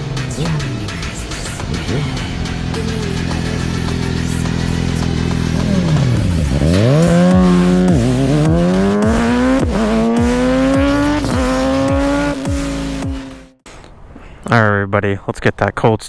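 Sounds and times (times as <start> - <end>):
high-revving engine accelerating: 0.0 - 13.6.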